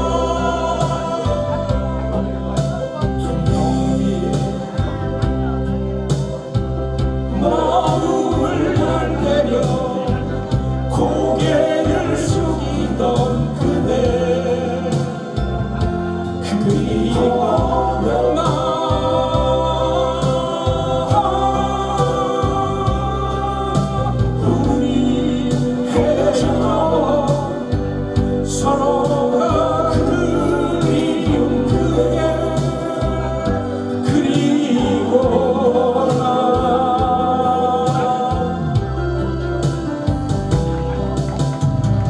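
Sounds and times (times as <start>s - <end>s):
man singing into microphone: 0.0s - 5.8s, 7.3s - 39.4s
backing track with bass beat: 0.0s - 42.0s.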